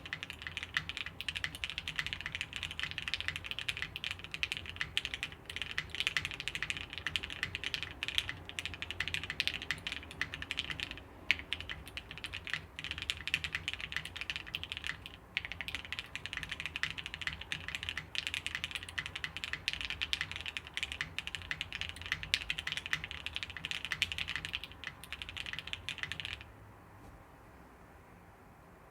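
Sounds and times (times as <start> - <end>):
fast mechanical keyboard typing: 0.0 - 26.4.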